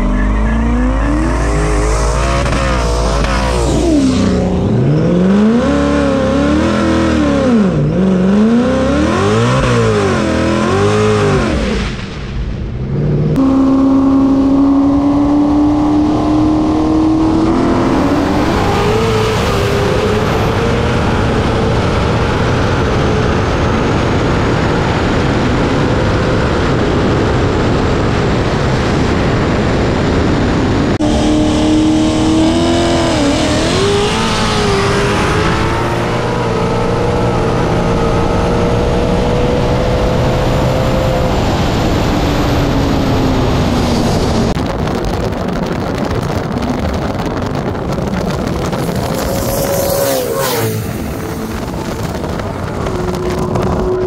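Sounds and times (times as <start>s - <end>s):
car engines at full throttle: 0.0s - 54.0s
wind rush on microphone: 0.0s - 54.0s.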